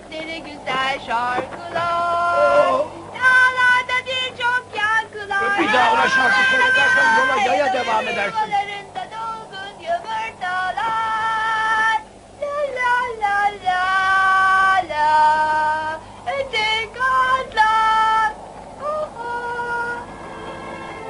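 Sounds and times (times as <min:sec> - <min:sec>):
high voice singing slow melody: 0:00.0 - 0:21.0.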